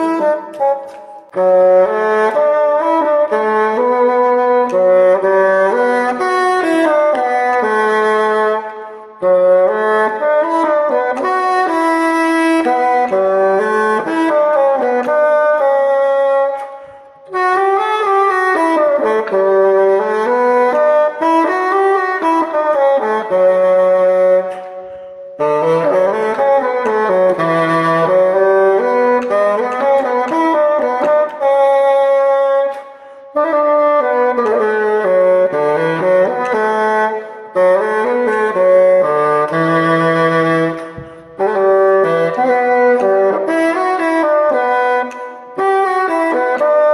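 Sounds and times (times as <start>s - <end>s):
solo bassoon melody: 0.0s - 46.9s.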